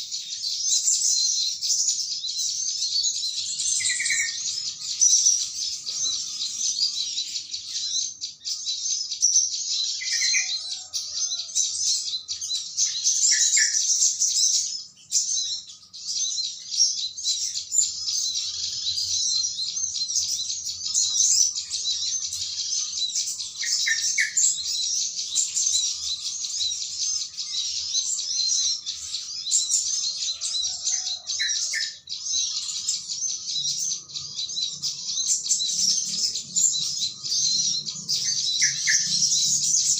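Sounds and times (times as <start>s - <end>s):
flock of small birds twittering: 0.0s - 39.9s.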